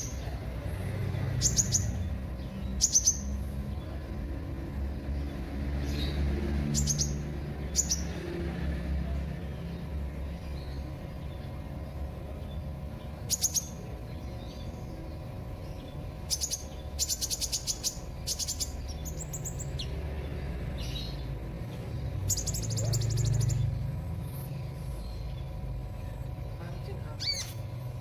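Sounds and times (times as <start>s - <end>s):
bird chirping trills: 0.0s - 28.0s
low background hum: 0.0s - 28.0s.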